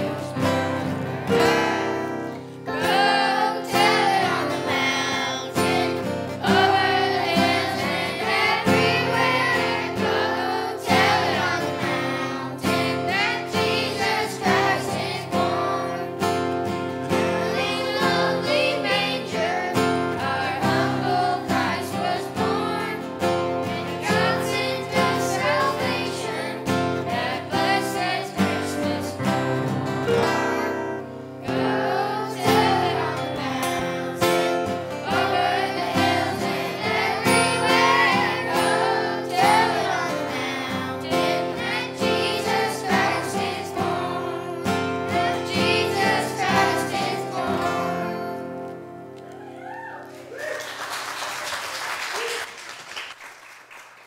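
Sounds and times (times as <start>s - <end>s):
children's choir singing: 0.0s - 49.0s
acoustic guitar: 0.0s - 50.4s.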